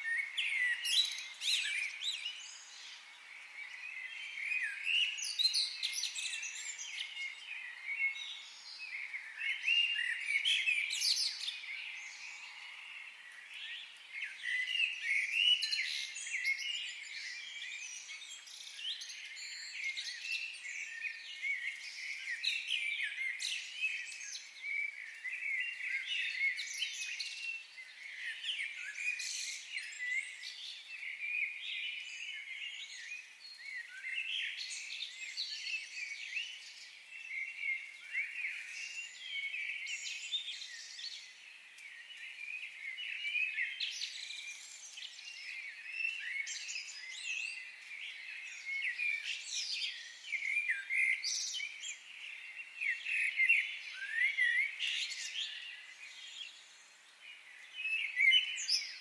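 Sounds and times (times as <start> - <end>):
songbirds singing and chirping: 0.0 - 59.0.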